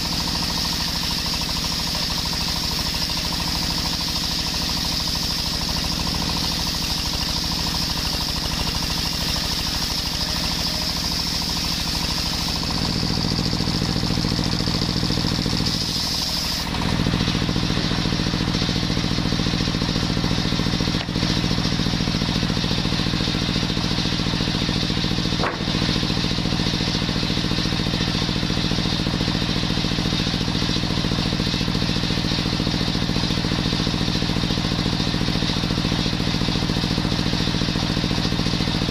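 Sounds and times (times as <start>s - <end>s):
circular saw blade whine cutting wood: 0.0s - 38.9s
stationary engine running: 0.0s - 38.9s.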